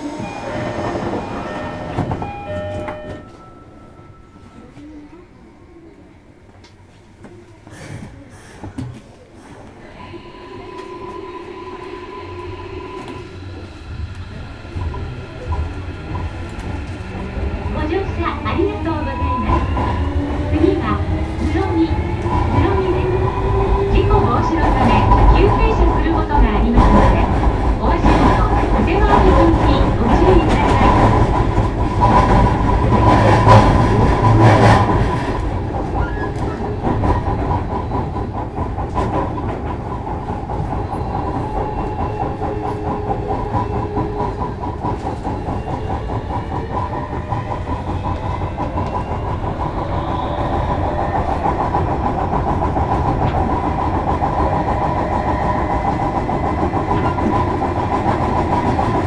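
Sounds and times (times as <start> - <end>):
train wheels rolling on rail: 10.4 - 59.0.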